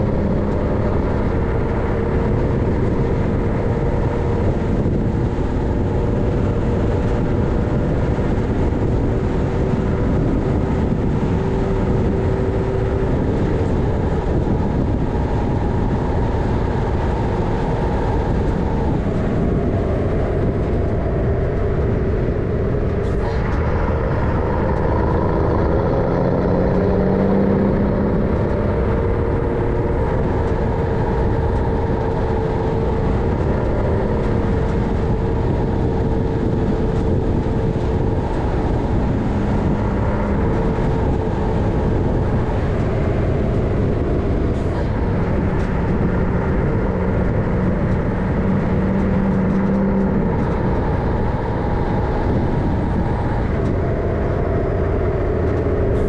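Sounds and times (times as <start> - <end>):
truck diesel engine drone: 0.0 - 56.0.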